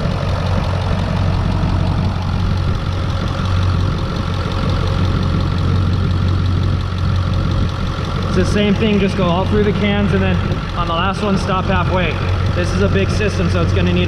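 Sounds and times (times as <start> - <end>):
diesel engine idling with clatter: 0.0 - 14.0.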